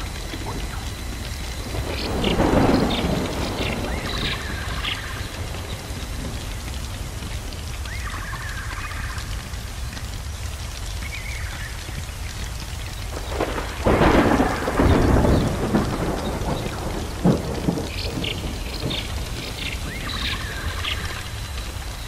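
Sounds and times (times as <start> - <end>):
sharp crackles: 0.0 - 22.0
steady rain: 0.0 - 22.0
thunder rumbling: 0.0 - 22.0.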